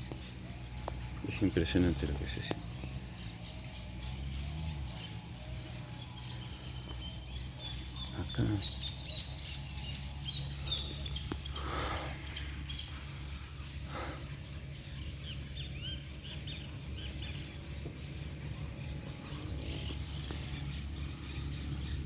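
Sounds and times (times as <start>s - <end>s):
low outdoor background rumble: 0.0s - 22.0s
small birds chirping: 0.0s - 22.0s.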